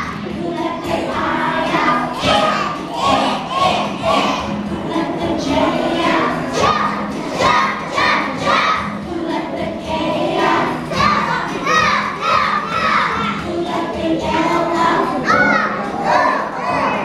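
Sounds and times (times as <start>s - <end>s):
children's choir singing: 0.0s - 17.0s
music accompaniment: 0.0s - 17.0s.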